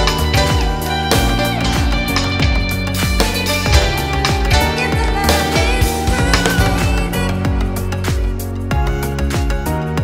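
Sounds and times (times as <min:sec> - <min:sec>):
upbeat guitar music: 0:00.0 - 0:10.0.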